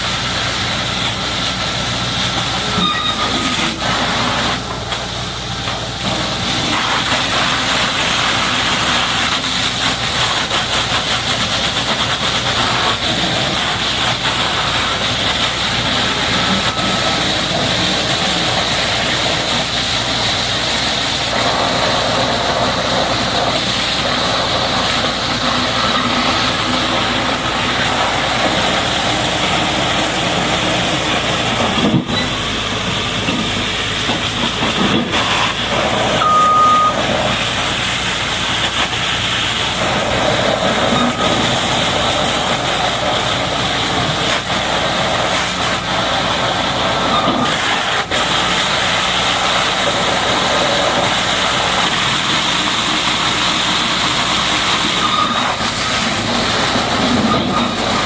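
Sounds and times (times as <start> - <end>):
engine running: 0.0 - 58.0
high-pressure water jet hissing: 0.0 - 58.0.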